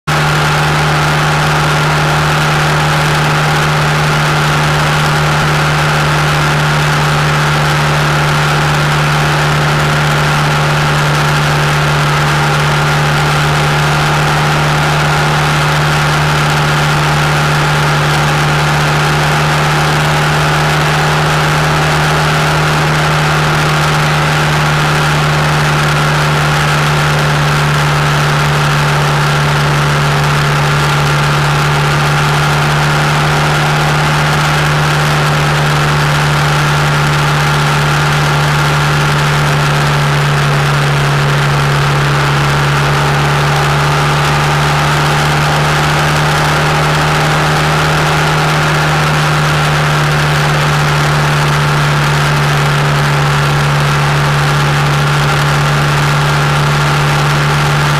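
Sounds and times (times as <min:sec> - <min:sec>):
motorcycle engine cruising: 0:00.0 - 0:57.9.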